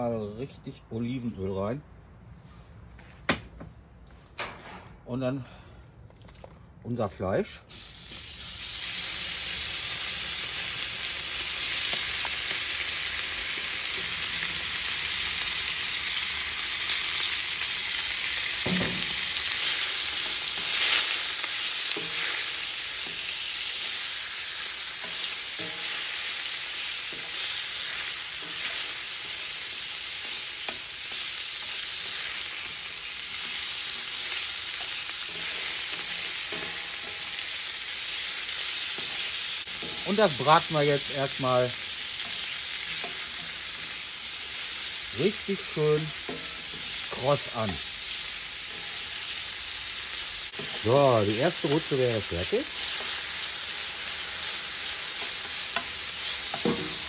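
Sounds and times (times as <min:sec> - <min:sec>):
meat sizzling in a hot pan: 0:07.7 - 0:57.0.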